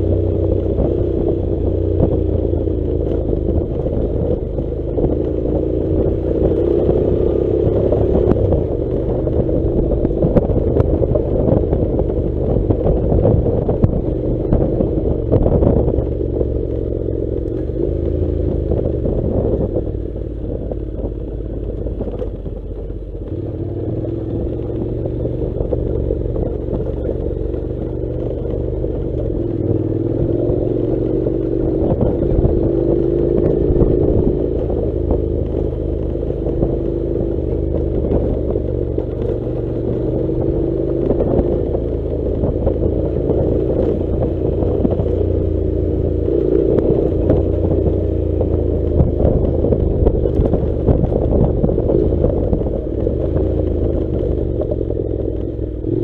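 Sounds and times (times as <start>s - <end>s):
gravel clicks and clatter: 0.0s - 56.0s
motorcycle engine revving: 0.0s - 56.0s.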